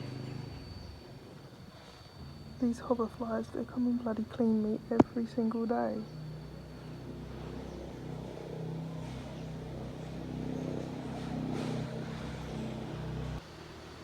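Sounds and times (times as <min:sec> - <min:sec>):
low engine hum: 0:00.0 - 0:01.5, 0:02.1 - 0:14.0.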